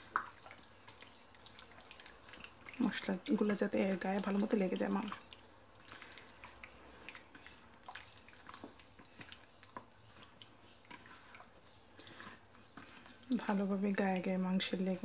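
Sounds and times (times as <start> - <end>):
wet squelches of meat: 0.0 - 13.7.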